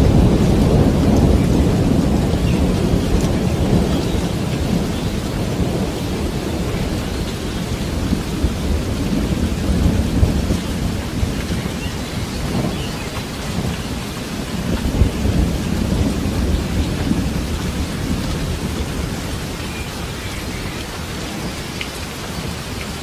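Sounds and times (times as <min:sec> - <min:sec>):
raindrop ticks: 0:00.0 - 0:23.0
steady rain: 0:00.0 - 0:23.0.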